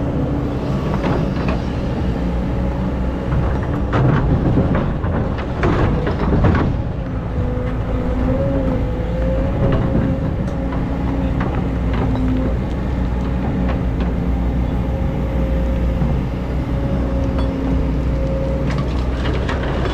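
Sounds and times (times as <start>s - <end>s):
excavator engine rumbling: 0.0s - 19.9s.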